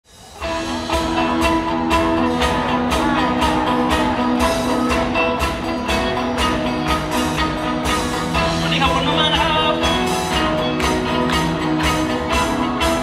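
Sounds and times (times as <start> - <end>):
drums steady beat: 0.0 - 13.0
live band playing: 0.1 - 13.0.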